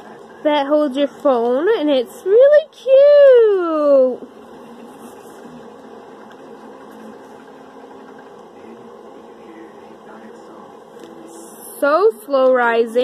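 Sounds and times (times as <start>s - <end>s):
room hiss: 0.0s - 13.0s.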